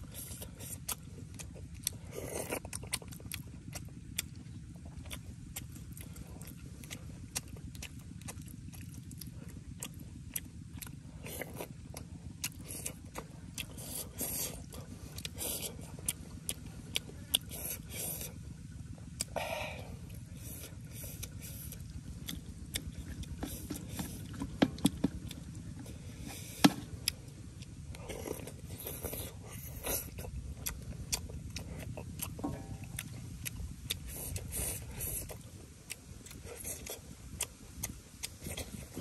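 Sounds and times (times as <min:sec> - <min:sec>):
chewing: 0:00.0 - 0:39.0
low rumble: 0:00.0 - 0:39.0.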